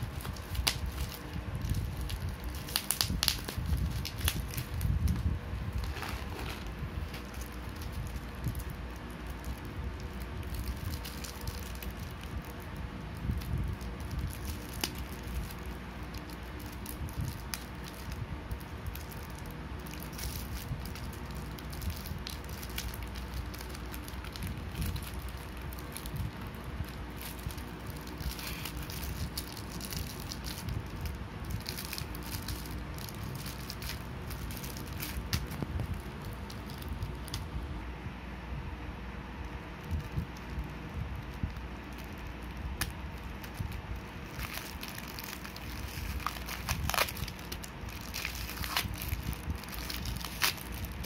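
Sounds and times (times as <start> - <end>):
plastic wrapping crinkling: 0.0 - 37.6, 39.8 - 51.0
steady low hum: 0.0 - 51.0.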